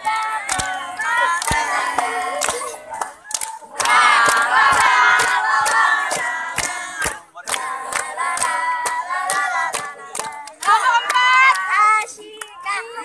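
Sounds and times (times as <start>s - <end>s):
hand claps: 0.0s - 12.8s
group singing together: 0.0s - 13.0s.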